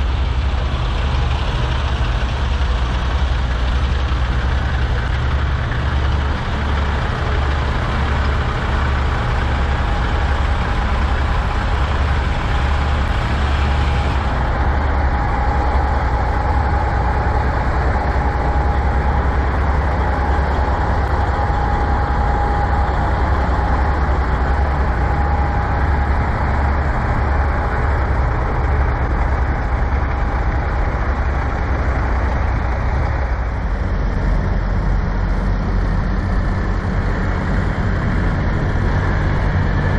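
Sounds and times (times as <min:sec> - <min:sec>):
diesel truck engine idling: 0:00.0 - 0:39.9
faint steady whine: 0:00.0 - 0:39.9.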